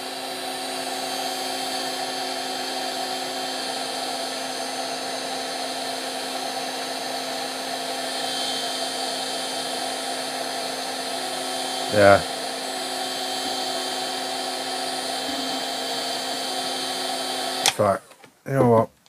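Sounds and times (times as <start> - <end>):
heat gun blowing air: 0.0 - 18.3.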